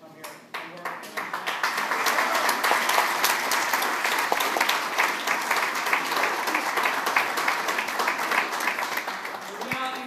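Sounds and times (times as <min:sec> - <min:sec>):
crowd applauding: 0:00.5 - 0:10.0.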